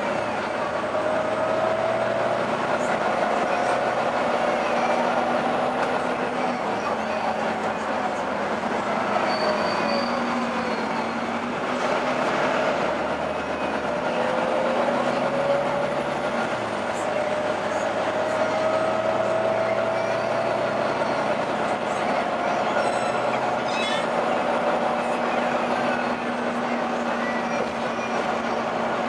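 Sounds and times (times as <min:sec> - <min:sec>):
bus engine rumble: 0:00.0 - 0:29.0.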